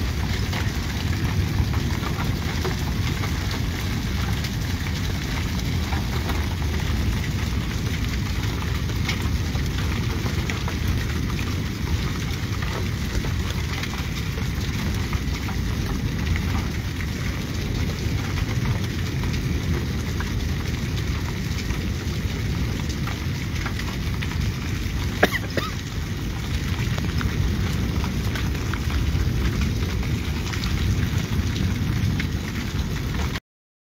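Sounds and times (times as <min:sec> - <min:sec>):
steady rain: 0:00.0 - 0:33.4.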